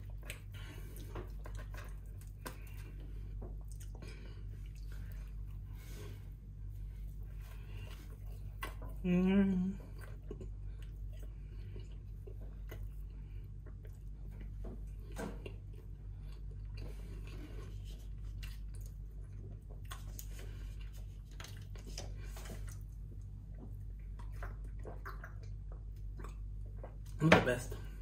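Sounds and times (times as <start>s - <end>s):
chewing bread: 0.0s - 27.2s
low hum: 0.0s - 28.0s.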